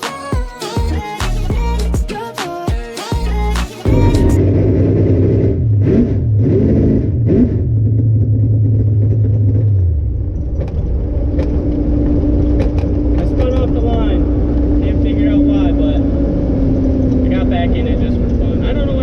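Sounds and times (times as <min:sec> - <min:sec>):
car engine revving: 0:03.5 - 0:19.0.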